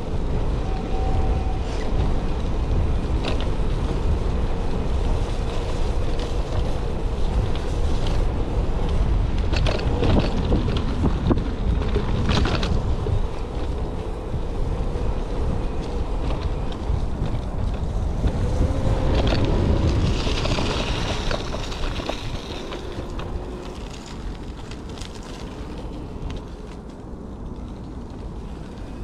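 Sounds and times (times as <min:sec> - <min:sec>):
tyres rumbling over rough ground: 0:00.0 - 0:29.0
wind buffeting microphone: 0:00.0 - 0:29.0
bike rattling clicks and knocks: 0:01.9 - 0:29.0.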